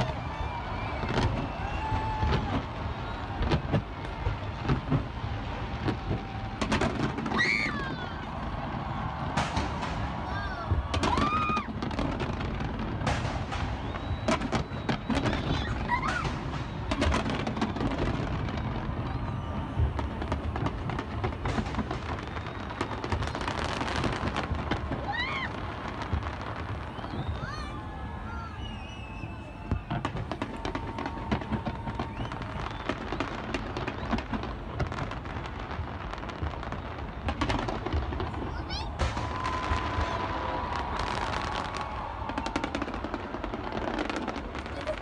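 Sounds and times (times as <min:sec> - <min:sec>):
fireworks banging: 0:00.0 - 0:45.0.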